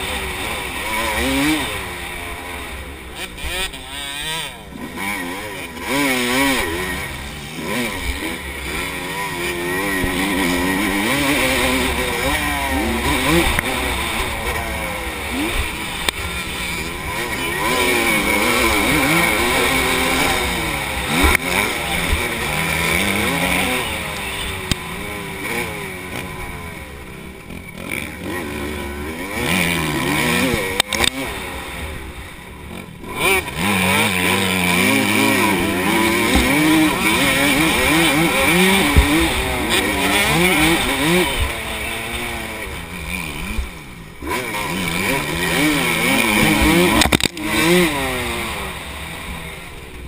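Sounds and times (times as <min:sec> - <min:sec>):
motocross bike engine revving: 0:00.0 - 0:50.0.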